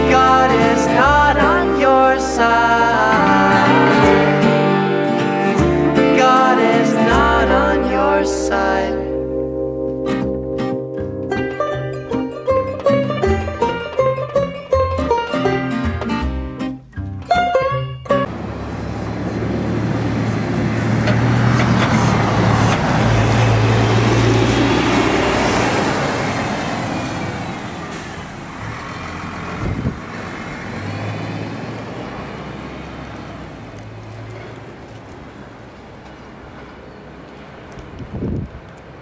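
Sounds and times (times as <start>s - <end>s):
bus passing with diesel engine: 0.0s - 16.5s, 18.1s - 39.0s.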